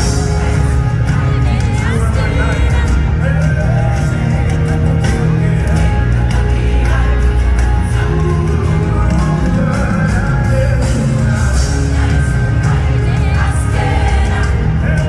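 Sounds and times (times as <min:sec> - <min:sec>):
gospel worship music: 0:00.0 - 0:15.0
heavy sustained bass line: 0:00.0 - 0:15.0
people singing: 0:00.0 - 0:15.0.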